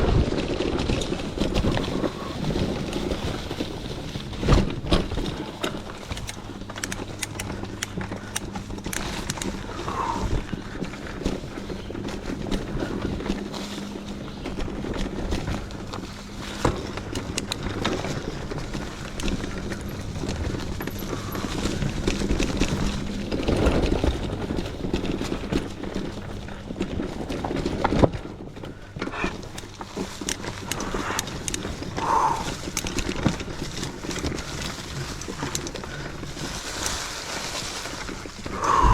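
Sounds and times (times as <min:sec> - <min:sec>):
bike clattering over bumps: 0:00.0 - 0:38.9
bike tyres rolling on dirt: 0:00.0 - 0:38.9
low hum: 0:00.0 - 0:38.9.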